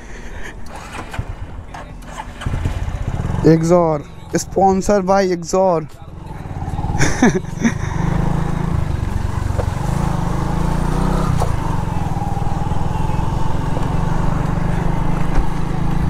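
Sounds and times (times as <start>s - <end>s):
motorcycle engine running: 0.6s - 16.0s.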